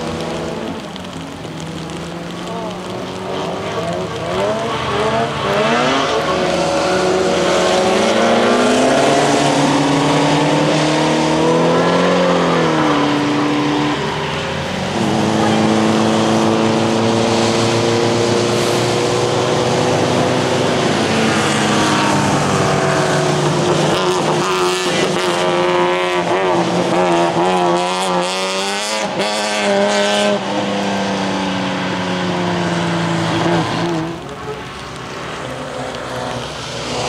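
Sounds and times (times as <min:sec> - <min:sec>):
racing car engines revving: 0:00.0 - 0:37.0.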